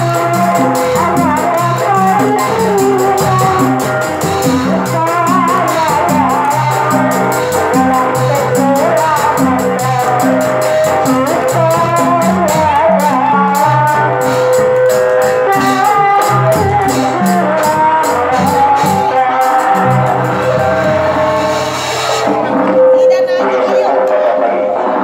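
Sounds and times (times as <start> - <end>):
low drum pattern: 0.0 - 23.5
wavering melody: 0.0 - 23.9
fast high percussion beat: 0.0 - 24.0.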